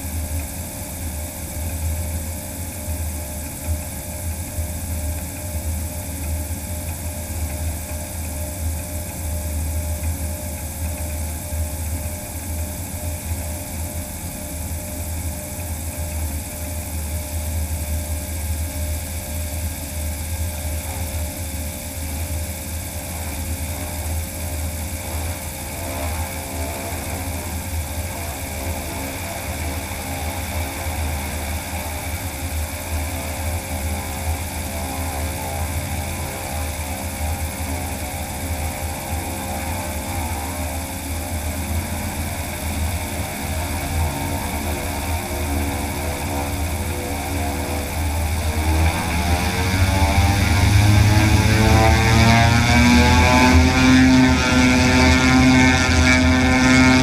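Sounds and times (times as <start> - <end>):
electric motor humming: 0.0 - 57.0.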